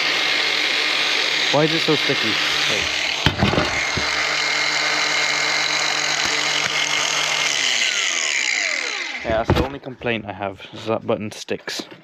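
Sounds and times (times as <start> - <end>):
angle grinder running: 0.0 - 10.1.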